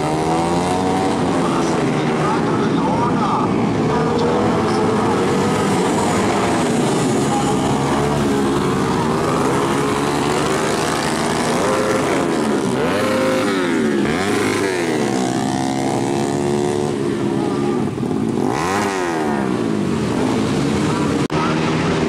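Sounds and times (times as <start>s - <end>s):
motorcycle passing close by: 0.0s - 2.0s, 4.6s - 22.0s
motorcycle engines racing: 0.0s - 22.0s.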